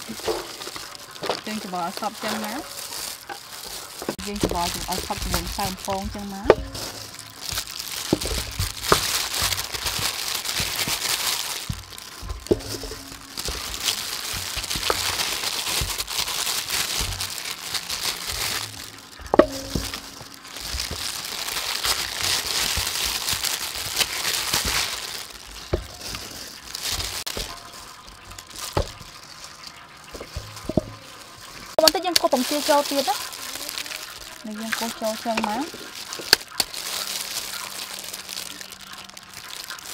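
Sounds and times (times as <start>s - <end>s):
flour rustling: 0.0s - 39.9s
plastic gloves crinkling: 0.0s - 39.9s.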